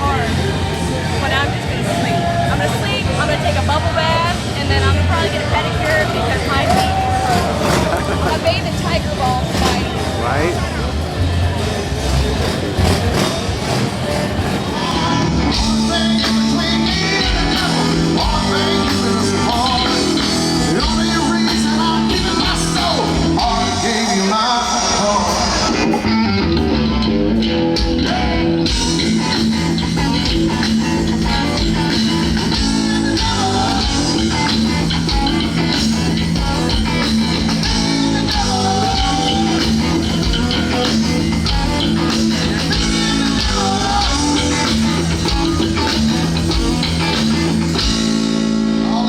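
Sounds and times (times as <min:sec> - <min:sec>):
rock music: 0:00.0 - 0:49.0.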